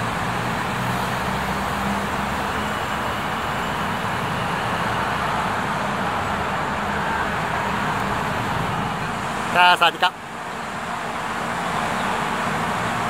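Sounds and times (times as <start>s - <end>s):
road traffic roar: 0.0s - 13.0s.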